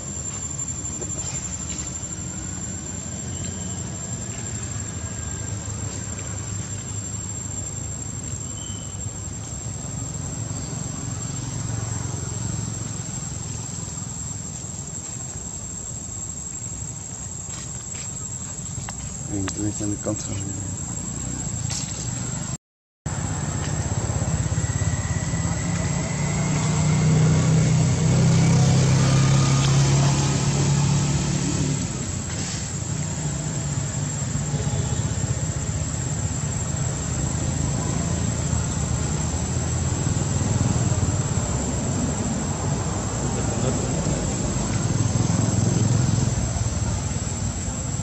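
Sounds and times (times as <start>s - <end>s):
low engine rumble: 0.0s - 48.0s.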